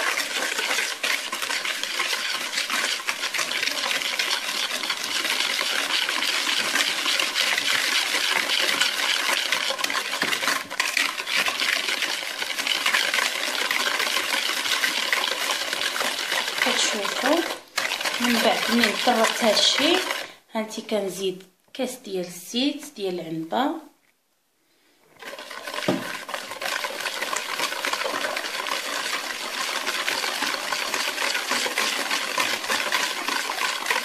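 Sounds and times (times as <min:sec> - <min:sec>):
wire whisk clattering in bowl: 0:00.0 - 0:20.3, 0:25.2 - 0:34.0.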